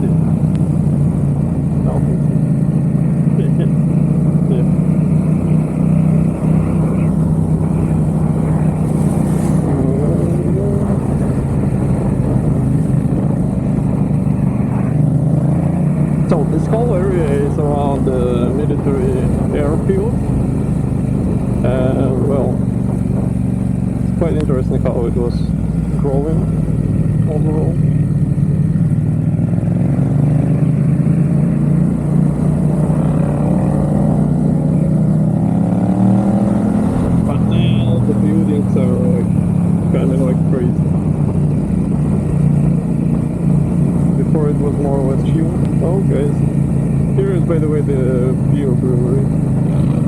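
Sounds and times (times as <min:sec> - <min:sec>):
motorcycle engine running steadily: 0:00.0 - 0:50.0.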